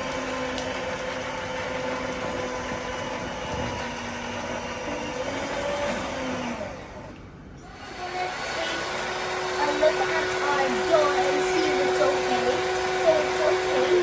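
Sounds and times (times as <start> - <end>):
electric mixer motor humming: 0.0 - 14.0.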